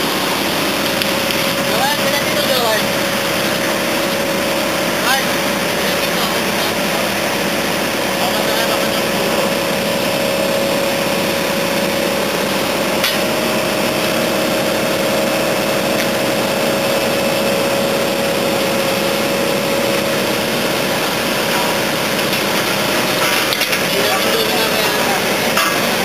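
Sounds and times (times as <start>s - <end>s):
constant whine: 0.0s - 26.0s
paver engine running: 0.0s - 26.0s.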